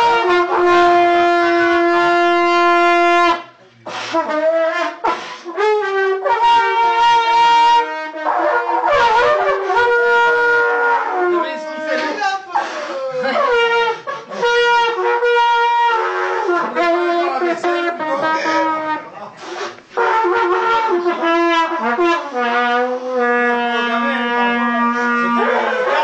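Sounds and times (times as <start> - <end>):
wind instrument held reedy notes: 0.0 - 12.0, 12.6 - 17.4, 18.0 - 26.0.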